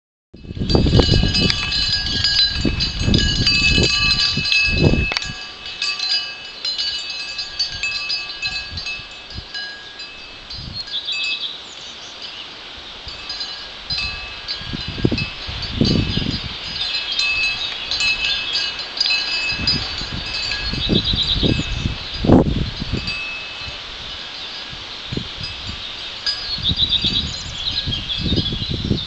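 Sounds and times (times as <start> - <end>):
wind buffeting microphone: 0.4 - 11.0, 12.8 - 29.0
wind chimes ringing: 0.4 - 29.0.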